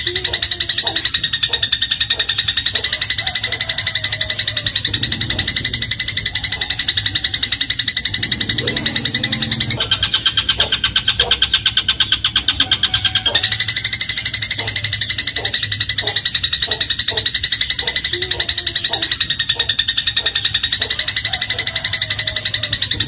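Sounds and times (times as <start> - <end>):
sparrow high rattling trill: 0.0 - 23.0.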